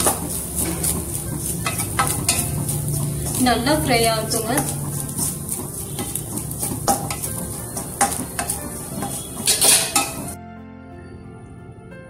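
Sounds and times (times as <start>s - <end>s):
frying sizzle: 0.0s - 10.4s
spatula scraping metal pan: 0.0s - 10.4s.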